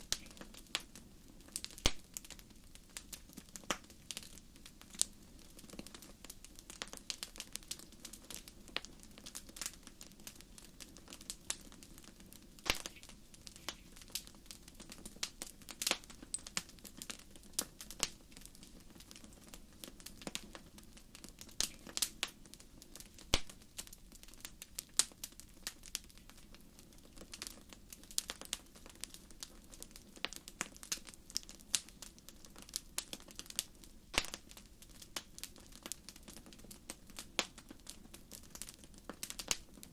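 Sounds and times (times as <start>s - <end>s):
low rumble of flame: 0.0s - 39.9s
wood fire crackling and popping: 0.0s - 39.9s.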